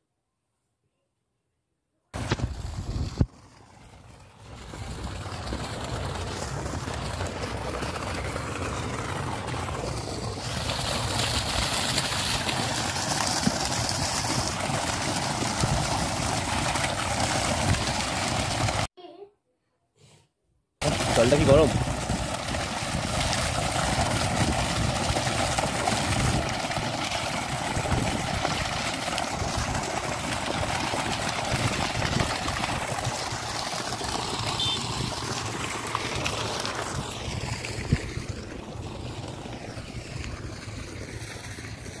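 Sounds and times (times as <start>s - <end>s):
water pouring onto wet ground: 2.2s - 18.9s, 20.8s - 42.0s.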